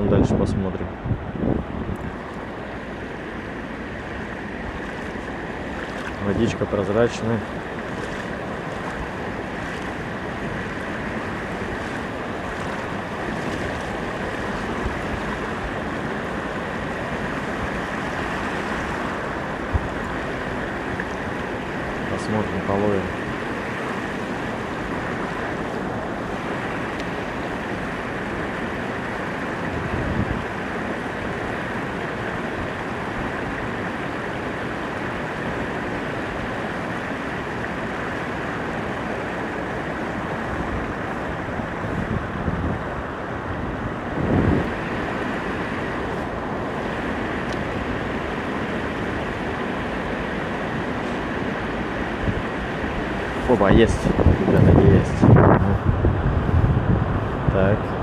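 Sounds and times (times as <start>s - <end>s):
moving water: 0.0s - 58.0s
wind: 0.0s - 58.0s.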